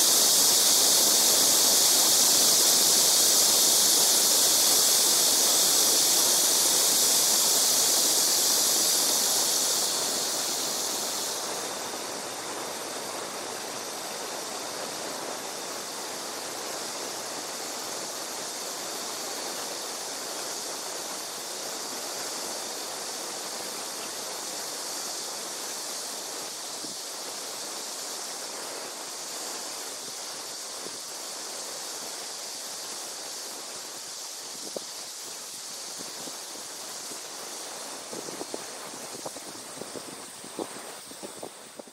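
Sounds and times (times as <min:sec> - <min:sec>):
steady outdoor hiss: 0:00.0 - 0:41.9.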